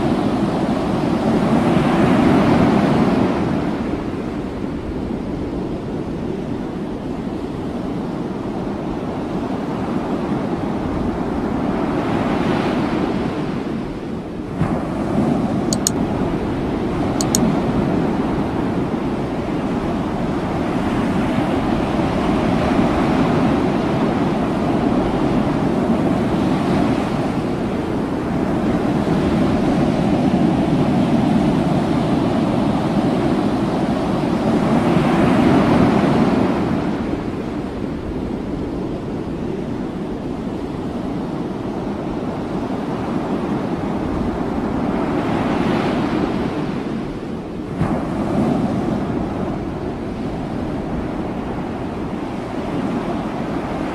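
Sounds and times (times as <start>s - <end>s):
open sea rushing: 0.0s - 53.9s
wind buffeting microphone: 0.0s - 53.9s.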